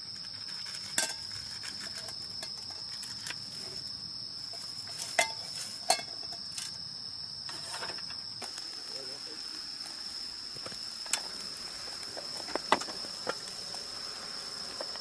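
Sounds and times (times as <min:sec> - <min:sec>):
insects high-pitched trill: 0:00.0 - 0:15.0.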